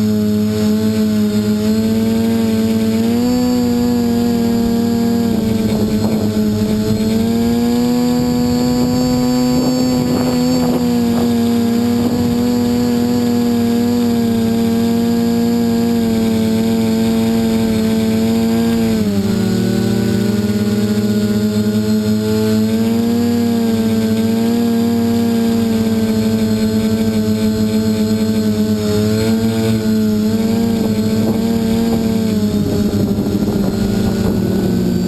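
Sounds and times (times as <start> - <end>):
drone propellers whining: 0.0 - 35.0.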